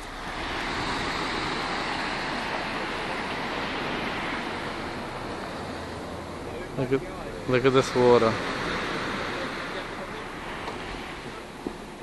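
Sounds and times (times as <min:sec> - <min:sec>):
wave breaking and washing in: 0:00.0 - 0:12.0.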